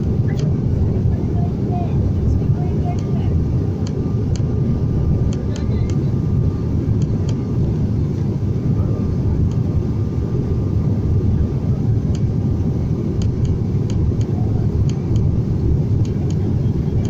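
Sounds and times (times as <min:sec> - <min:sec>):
faint steady whine: 0:00.0 - 0:17.0
turboprop engine drone in cabin: 0:00.0 - 0:17.0.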